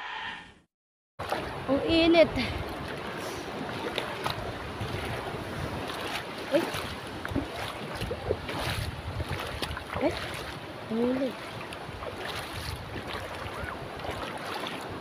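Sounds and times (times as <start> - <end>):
surf washing: 1.2 - 15.0
wind buffeting microphone: 1.3 - 15.0.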